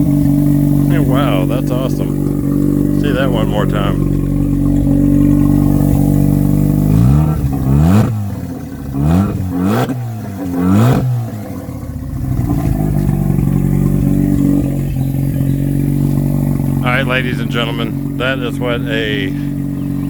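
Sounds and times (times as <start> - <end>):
rotary engine idling and revving: 0.0 - 20.0.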